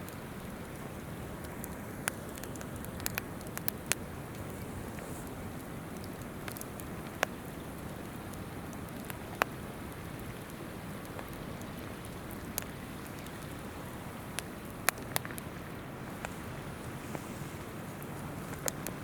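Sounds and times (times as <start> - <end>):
campfire crackling and popping: 0.0 - 19.0
river babbling: 0.0 - 19.0.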